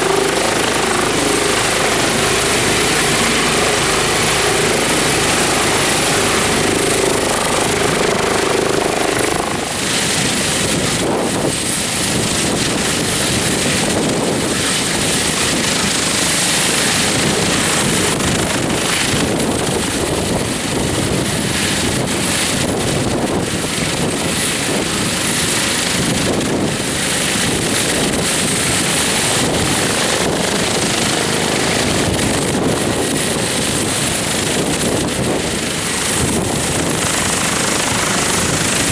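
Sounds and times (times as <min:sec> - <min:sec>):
helicopter rotor and engine: 0:00.0 - 0:38.9
high turbine whine: 0:00.0 - 0:38.9.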